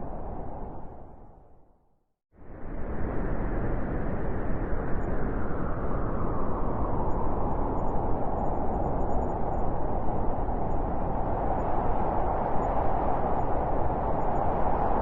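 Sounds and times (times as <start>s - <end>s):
strong wind rushing: 2.4s - 15.0s.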